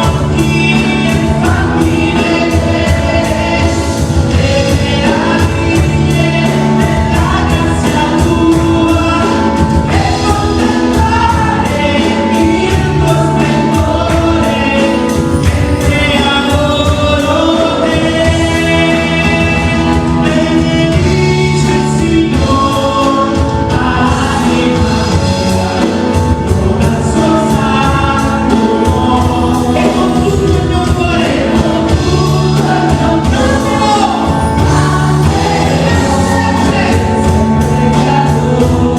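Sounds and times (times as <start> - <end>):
band playing: 0.0 - 38.9
drums beating: 0.0 - 38.9
voices singing together: 0.0 - 38.9.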